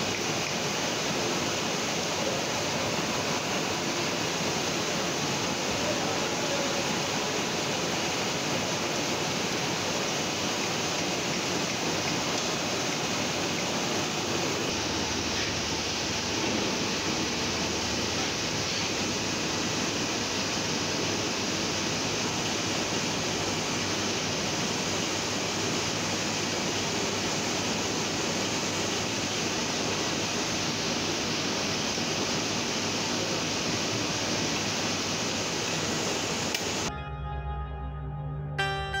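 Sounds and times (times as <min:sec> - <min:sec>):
printing press clatter and hiss: 0:00.0 - 0:36.9.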